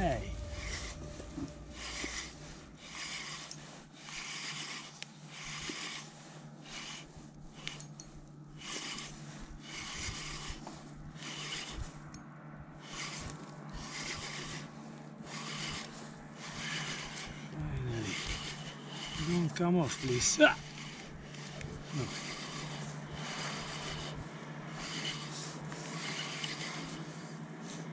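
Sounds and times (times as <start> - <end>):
fishing reel whirring: 0.0 - 7.9, 8.5 - 12.0, 12.8 - 27.8.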